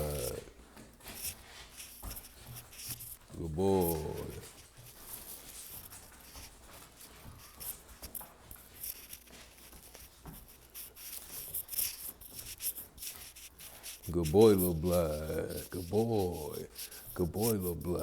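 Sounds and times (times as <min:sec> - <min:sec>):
puppy scuffling and rustling: 0:00.0 - 0:18.0.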